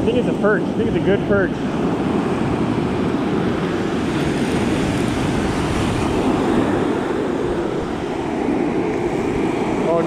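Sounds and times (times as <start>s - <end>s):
breaking surf: 0.0s - 10.0s
wind buffeting microphone: 0.0s - 10.0s.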